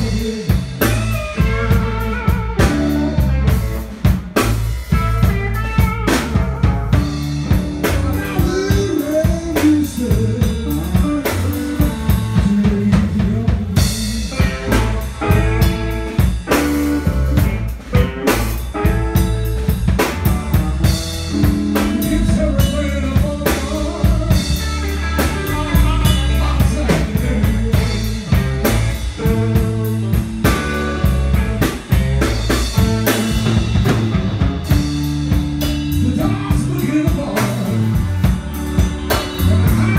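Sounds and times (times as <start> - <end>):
drum kit steady beat: 0.0 - 39.9
electric bass: 0.0 - 39.9
electric guitars: 0.0 - 39.9.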